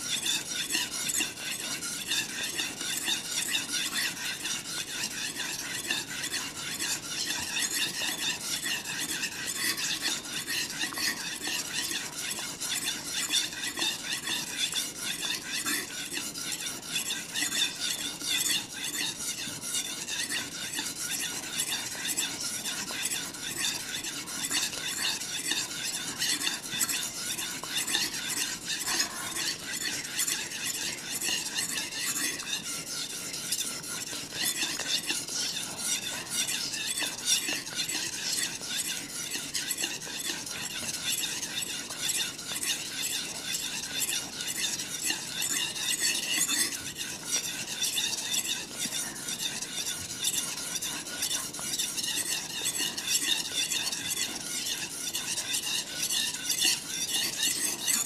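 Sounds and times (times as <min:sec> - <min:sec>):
knife scraping on whetstone: 0:00.0 - 0:58.0.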